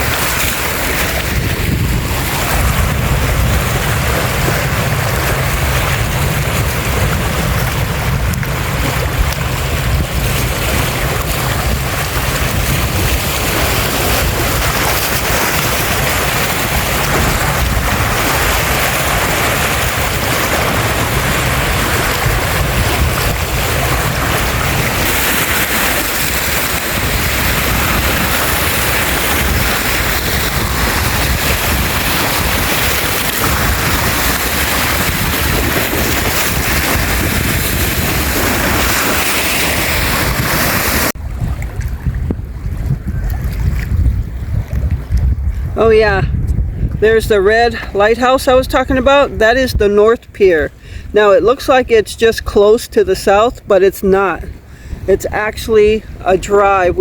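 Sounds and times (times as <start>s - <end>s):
wind buffeting microphone: 0.0s - 52.0s, 53.6s - 57.0s
waves washing: 0.0s - 57.0s.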